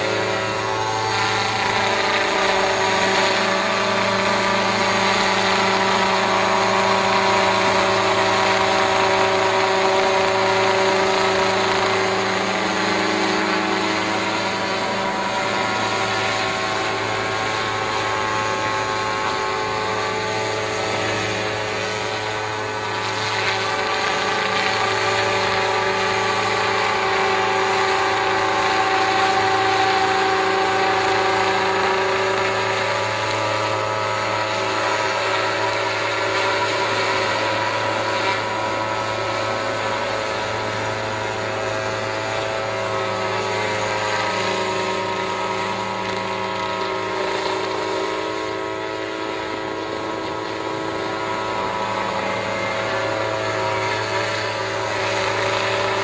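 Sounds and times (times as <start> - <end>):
helicopter engine with rotor hum: 0.0 - 56.0.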